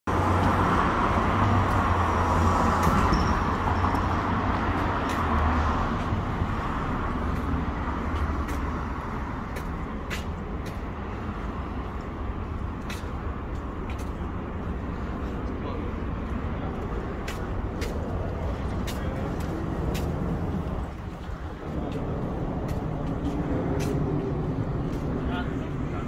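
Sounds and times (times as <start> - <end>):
passing vehicles engine rumble: 0.1 - 26.0.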